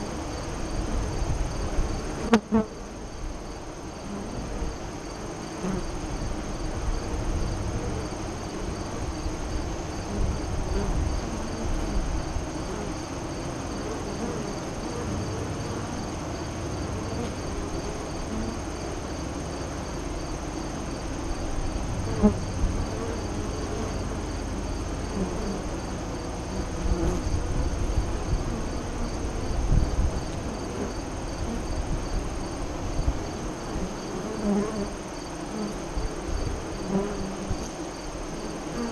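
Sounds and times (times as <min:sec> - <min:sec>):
honey bees buzzing: 0:00.0 - 0:38.9
pulsing high insect trill: 0:00.0 - 0:38.9.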